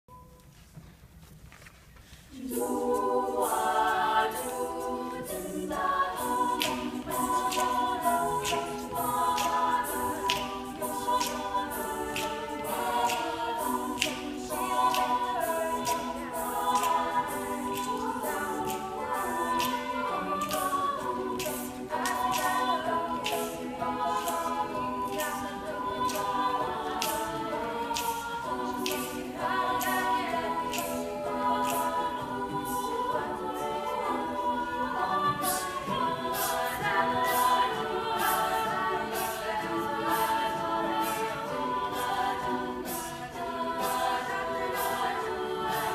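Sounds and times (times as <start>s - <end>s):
a cappella group singing: 2.0s - 45.9s.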